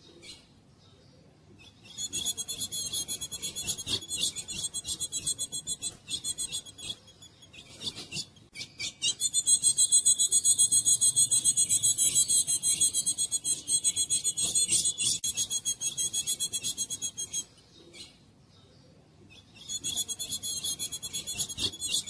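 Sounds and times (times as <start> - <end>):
bird calling raspy high notes: 1.9 - 17.5, 19.6 - 22.0.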